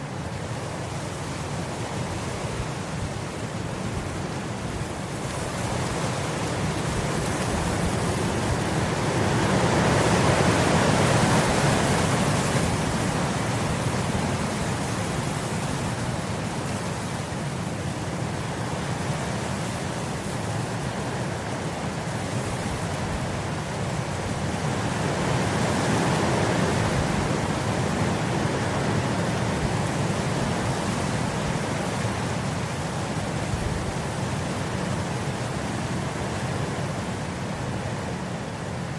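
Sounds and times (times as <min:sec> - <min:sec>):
wind blowing across grass: 0:00.0 - 0:38.9.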